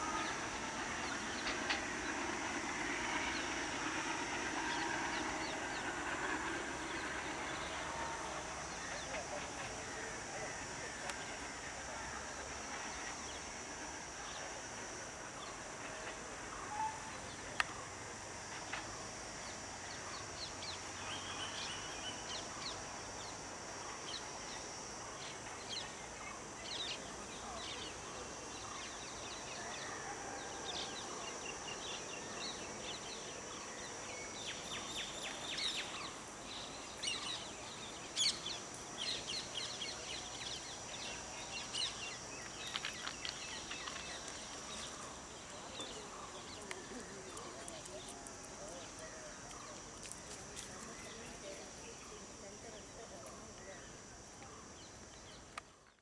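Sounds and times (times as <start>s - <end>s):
high hiss of rural ambience: 0.0s - 56.0s.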